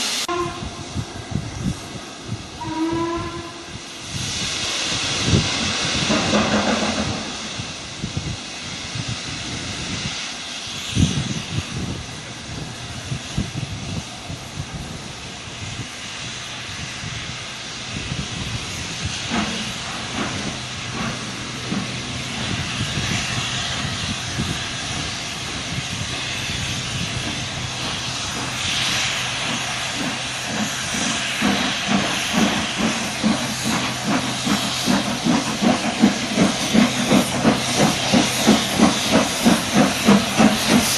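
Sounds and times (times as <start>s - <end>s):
hiss of escaping steam: 0.0s - 40.9s
steam locomotives passing: 0.0s - 40.9s.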